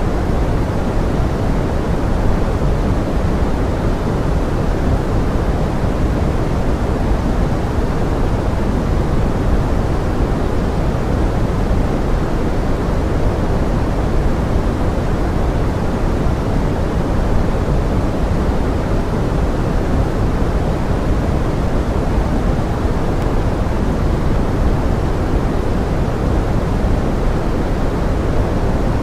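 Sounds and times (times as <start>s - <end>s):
pink noise: 0.0s - 29.0s.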